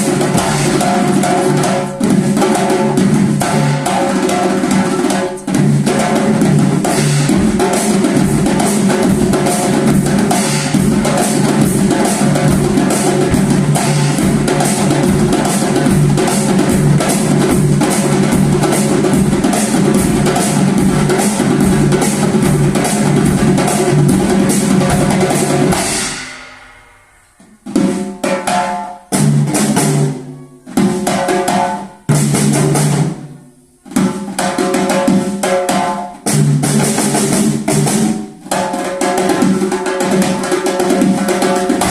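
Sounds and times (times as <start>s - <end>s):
drummers playing fast rhythm: 0.0s - 33.3s, 33.9s - 41.9s.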